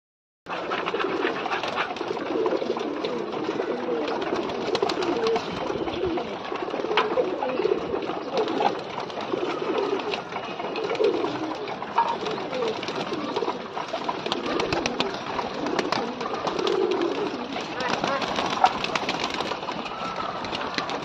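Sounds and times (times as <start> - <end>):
pigeons cooing: 0.5 - 21.0.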